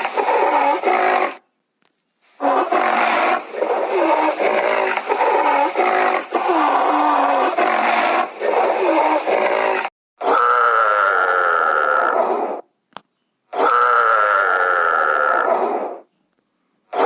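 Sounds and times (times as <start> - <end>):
long high-pitched animal call: 0.0 - 1.4, 2.4 - 12.5, 13.5 - 15.9.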